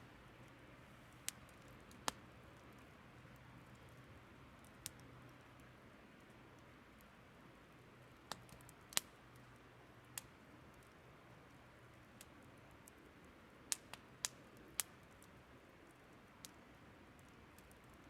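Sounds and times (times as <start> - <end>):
faint steady hiss: 0.0 - 18.0
burning wood crackling: 0.1 - 18.0.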